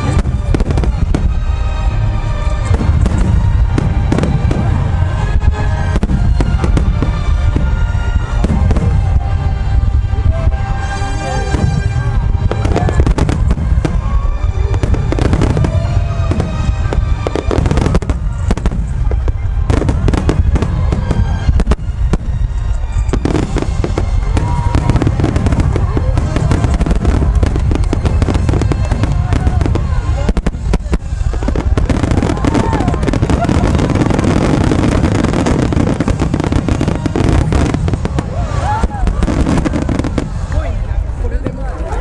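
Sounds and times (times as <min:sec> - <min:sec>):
fireworks booming and crackling: 0:00.0 - 0:42.0
music playing: 0:00.0 - 0:42.0.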